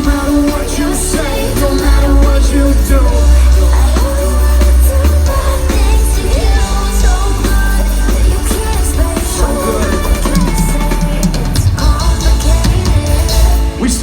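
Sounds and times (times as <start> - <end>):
live pop-rock music: 0.0 - 14.0
person singing: 0.0 - 14.0.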